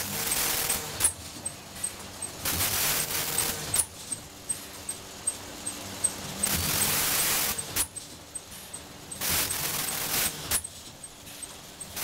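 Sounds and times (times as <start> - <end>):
packing machine hiss: 0.0 - 4.8, 6.4 - 12.0
sharp machine clack: 0.0 - 12.0
steady low hum: 0.0 - 12.0.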